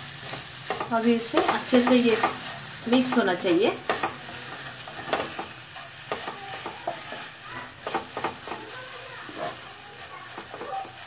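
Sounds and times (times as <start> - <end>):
frying sizzle: 0.0 - 11.0
spatula scraping a pan: 0.1 - 11.0.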